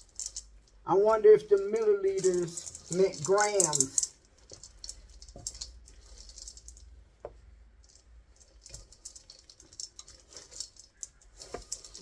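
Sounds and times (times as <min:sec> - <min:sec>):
utensil scraping cookie dough: 0:00.0 - 0:07.0, 0:07.8 - 0:12.0.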